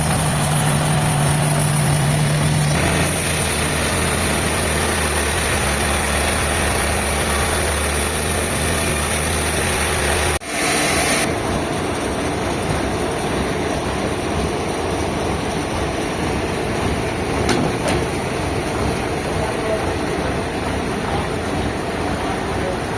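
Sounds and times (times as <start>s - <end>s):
sawmill machinery running: 0.0s - 22.9s.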